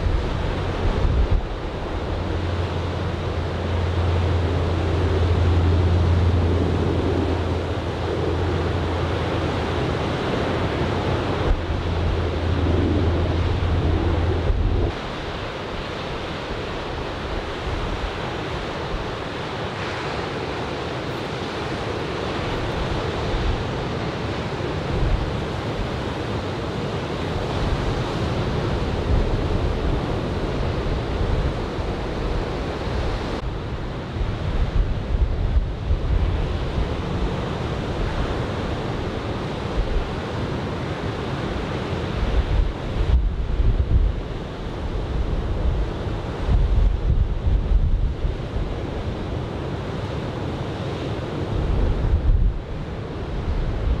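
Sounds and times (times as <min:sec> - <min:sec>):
wind buffeting microphone: 0:00.0 - 0:19.2, 0:27.3 - 0:40.3, 0:42.0 - 0:54.0
surf breaking on a beach: 0:00.0 - 0:54.0.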